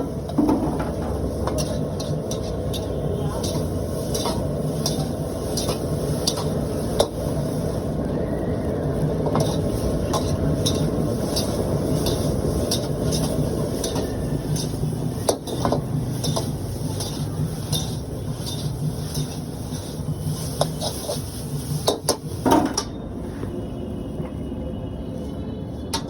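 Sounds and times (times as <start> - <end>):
metal spatula scraping a wok: 0.0 - 7.7, 9.3 - 22.8
steady low rumble: 0.0 - 26.0.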